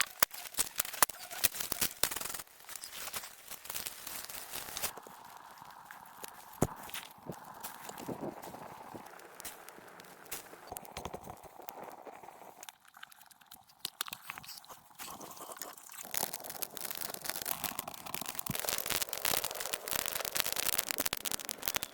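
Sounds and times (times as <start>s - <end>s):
crunching and crackling clicks: 0.0s - 21.9s.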